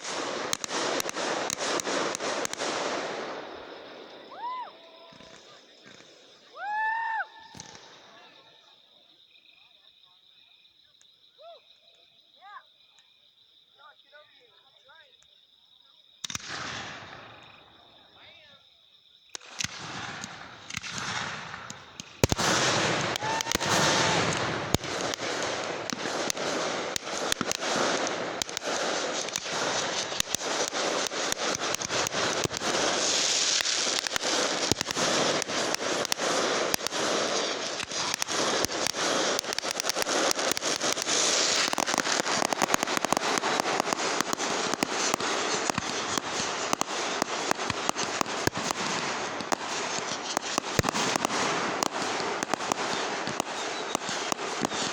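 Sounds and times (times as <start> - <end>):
fireworks crackling: 0.0 - 8.8, 16.2 - 18.4, 19.4 - 54.9.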